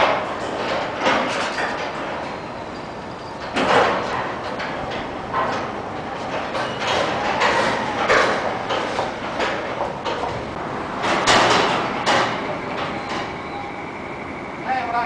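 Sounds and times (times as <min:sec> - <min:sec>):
car-park lift machinery running: 0:00.0 - 0:15.0.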